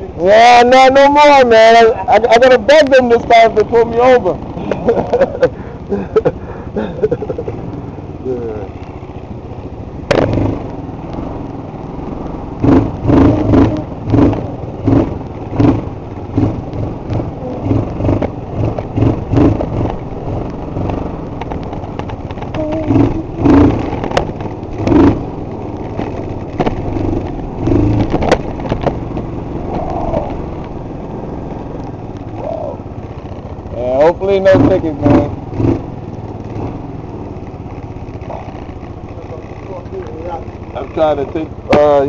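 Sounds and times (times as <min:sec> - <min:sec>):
scooter engine surging: 0:00.0 - 0:42.0.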